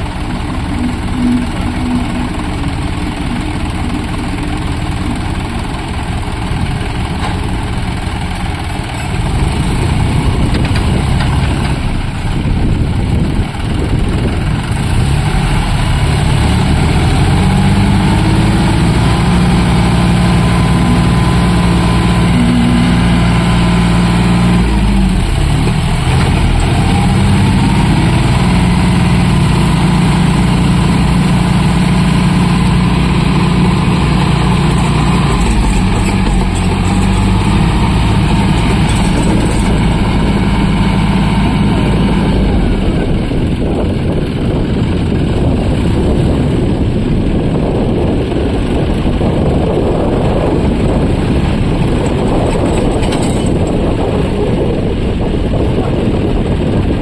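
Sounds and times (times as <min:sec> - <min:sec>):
tractor diesel engines under load: 0:00.0 - 0:57.0.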